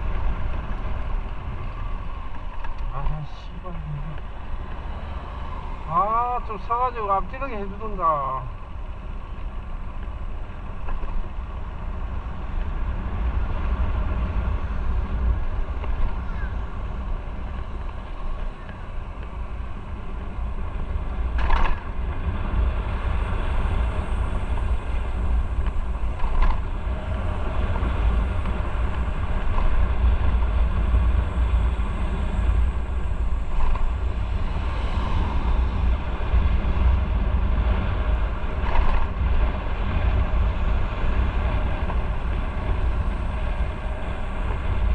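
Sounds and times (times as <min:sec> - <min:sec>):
wind noise on microphone: 0:00.0 - 0:03.3, 0:08.5 - 0:44.9
motorcycle engine rumble: 0:00.0 - 0:44.9.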